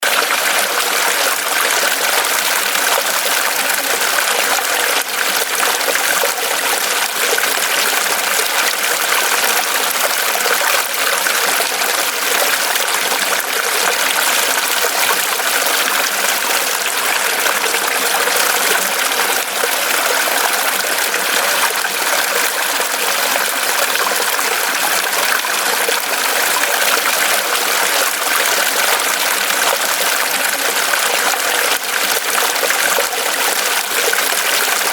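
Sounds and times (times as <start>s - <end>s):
stream running over rocks: 0.0s - 34.9s.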